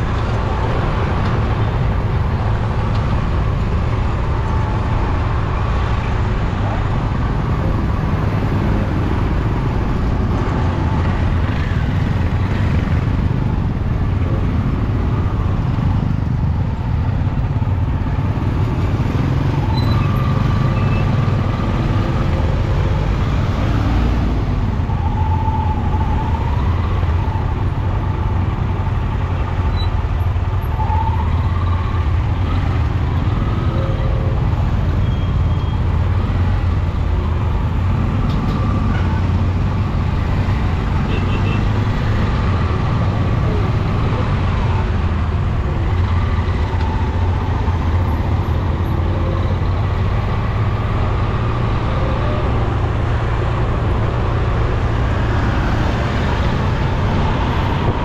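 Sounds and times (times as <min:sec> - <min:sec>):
motorbike and rickshaw engines: 0:00.0 - 0:58.0.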